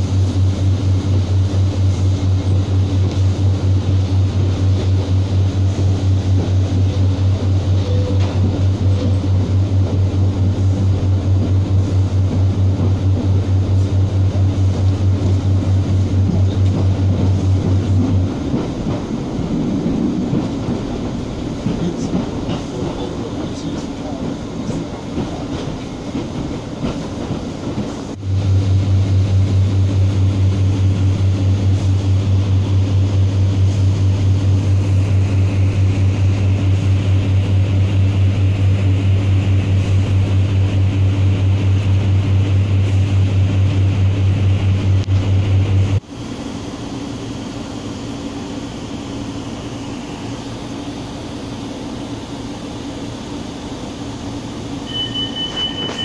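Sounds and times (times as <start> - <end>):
train running: 0.0 - 56.0.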